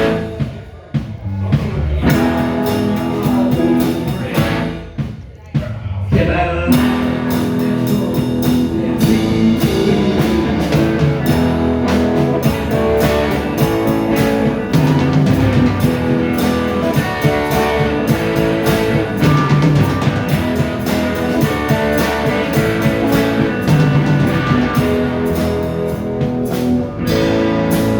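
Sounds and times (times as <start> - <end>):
rock band playing: 0.0 - 5.3, 6.2 - 27.9.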